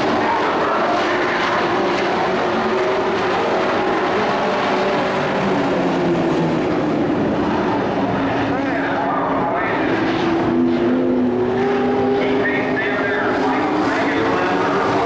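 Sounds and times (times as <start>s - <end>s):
racing truck engines: 0.0s - 15.0s.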